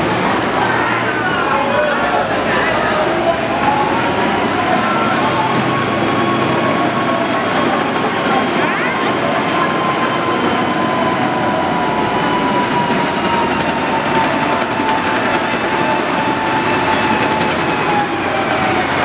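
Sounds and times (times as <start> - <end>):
steel tracks clattering: 0.0 - 19.0.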